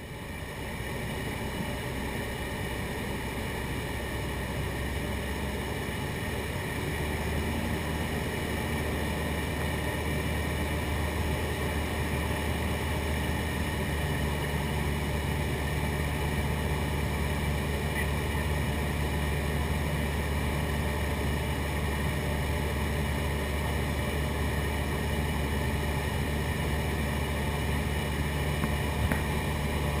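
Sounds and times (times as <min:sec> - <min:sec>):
light aircraft engine drone: 0:00.0 - 0:30.0.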